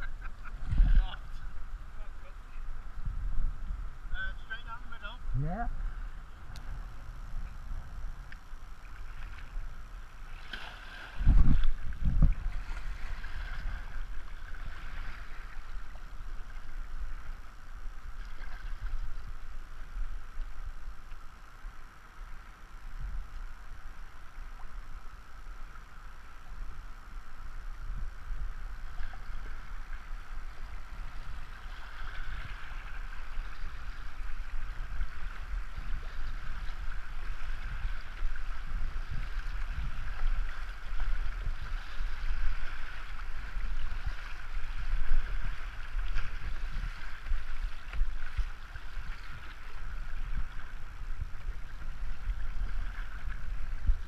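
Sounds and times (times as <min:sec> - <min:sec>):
wind on microphone: 0:00.0 - 0:04.2, 0:05.2 - 0:25.7, 0:26.4 - 0:54.0
river water rushing and splashing: 0:03.9 - 0:54.0.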